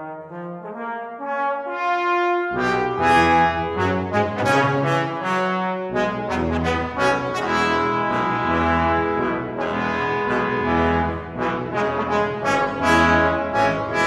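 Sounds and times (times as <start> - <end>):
trombones playing: 0.0 - 14.0
tuba low held notes: 0.0 - 14.0.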